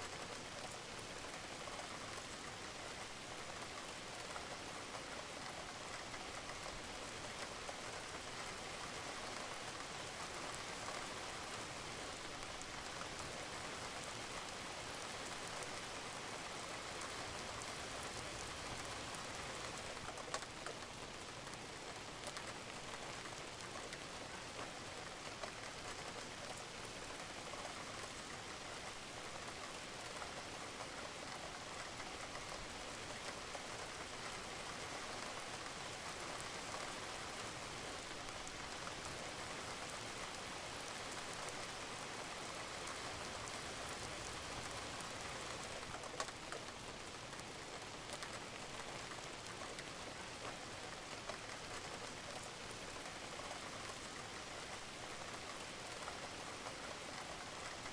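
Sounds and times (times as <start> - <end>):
rain on a roof: 0.0 - 57.9.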